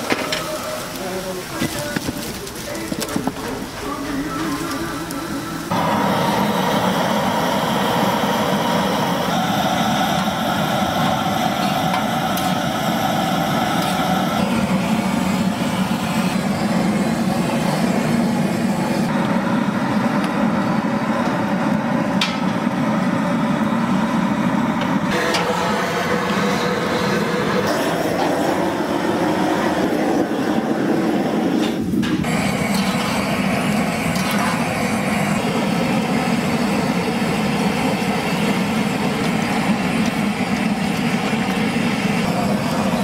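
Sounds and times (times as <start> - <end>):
gas torch flame rushing: 0.0 - 43.0.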